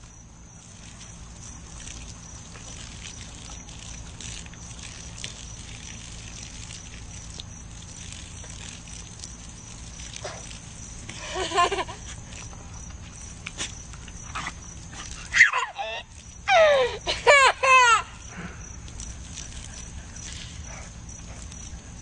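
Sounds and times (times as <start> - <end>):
garden hose spraying on grass: 0.0 - 22.0.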